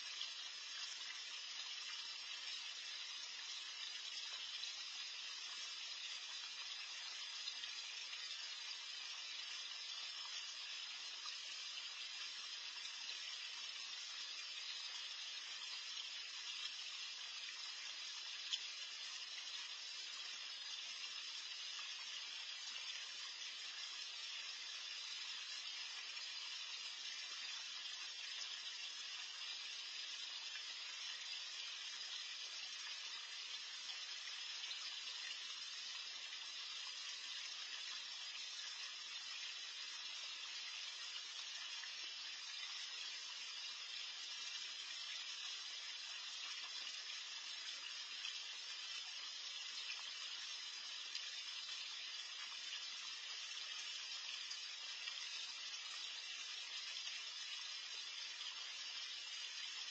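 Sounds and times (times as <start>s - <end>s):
bubbling water feature: 0.0s - 59.9s.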